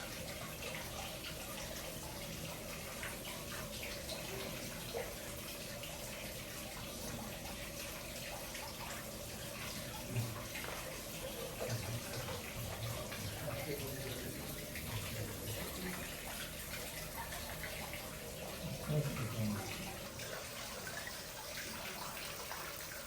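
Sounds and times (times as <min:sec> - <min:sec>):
running water splashing: 0:00.0 - 0:23.0.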